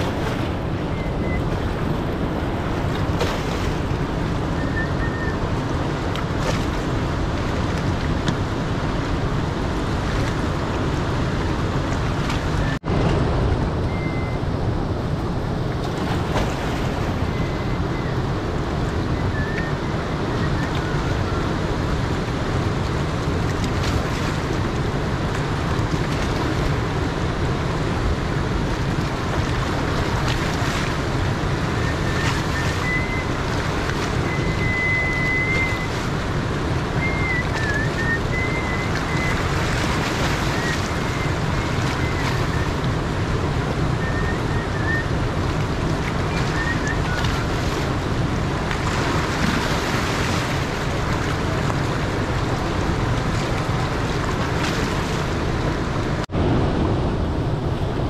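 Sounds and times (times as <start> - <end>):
river rushing through rapids: 0.0 - 58.0.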